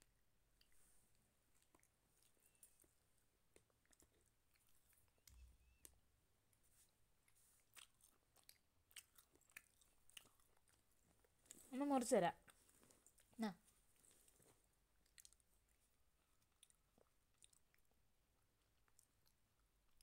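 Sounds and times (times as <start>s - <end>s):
toddler chewing bread: 1.5s - 5.9s, 6.5s - 11.7s, 12.4s - 20.0s.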